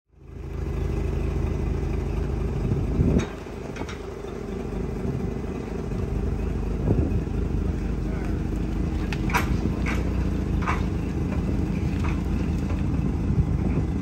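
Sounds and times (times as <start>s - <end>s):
engine clatter: 0.1s - 14.0s
engine idling: 0.1s - 14.0s.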